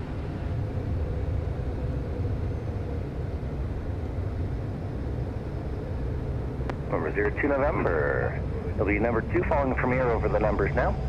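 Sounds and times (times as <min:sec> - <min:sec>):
faint steady hum: 0:00.0 - 0:11.0
jet cockpit rumble: 0:00.0 - 0:11.0.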